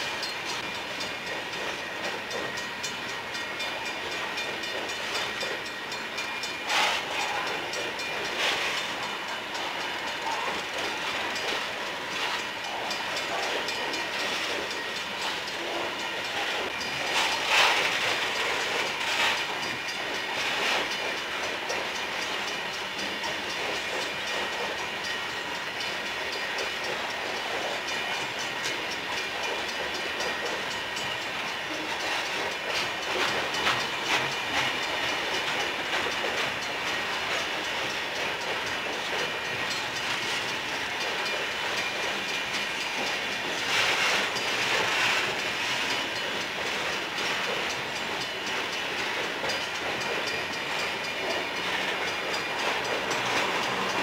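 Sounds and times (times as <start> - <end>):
train clatters: 0.0 - 54.0
train wheels on rails: 0.0 - 54.0.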